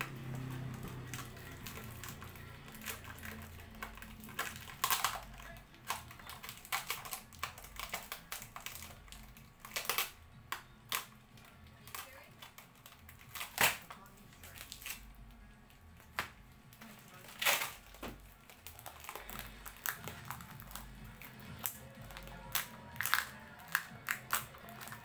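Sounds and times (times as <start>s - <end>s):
packaging crackling and clicking: 0.0s - 15.1s, 15.7s - 25.0s.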